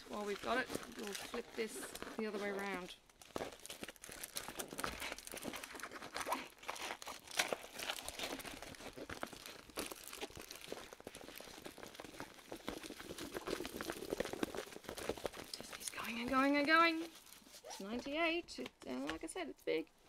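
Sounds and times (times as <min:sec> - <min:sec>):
plastic-covered canvas crinkling: 0:00.0 - 0:18.4.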